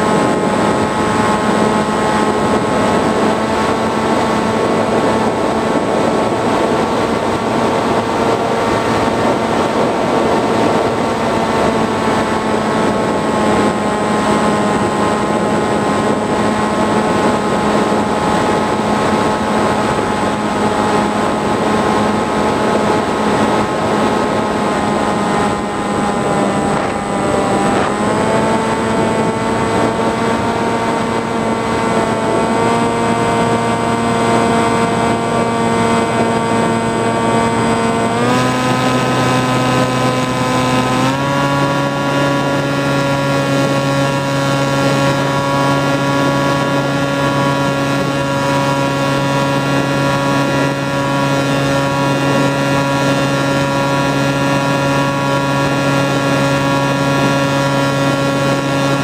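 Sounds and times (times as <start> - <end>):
model aircraft motor whine: 0.0 - 59.0
rush of airflow: 0.0 - 59.0.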